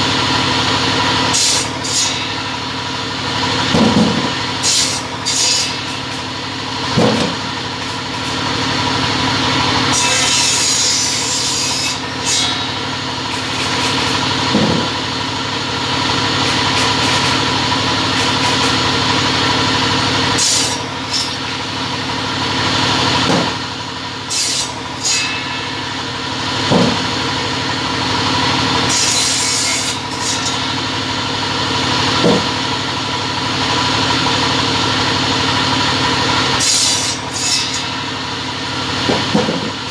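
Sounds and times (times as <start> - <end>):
cutting saw running: 0.0 - 39.9
saw blades cutting workpieces: 0.0 - 39.9.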